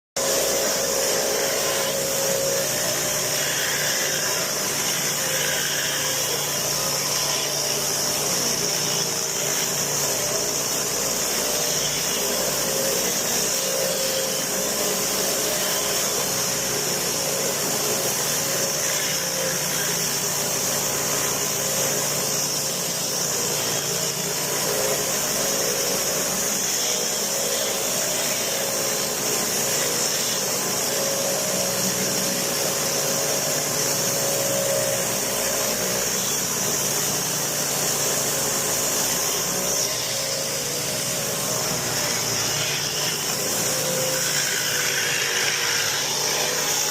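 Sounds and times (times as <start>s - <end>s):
pressure washer motor hum: 0.2s - 46.9s
water jet spraying concrete: 0.2s - 46.9s.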